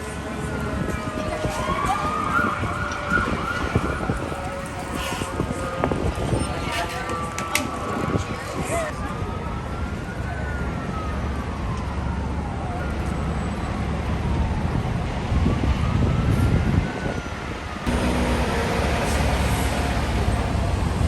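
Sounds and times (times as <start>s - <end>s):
fire truck siren wailing: 0.0s - 21.0s
truck engine and traffic rumble: 0.0s - 21.0s.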